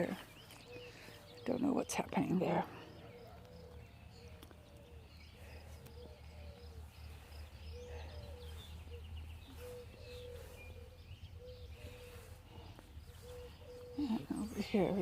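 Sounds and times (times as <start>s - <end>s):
birds singing and chirping: 0.0s - 15.0s.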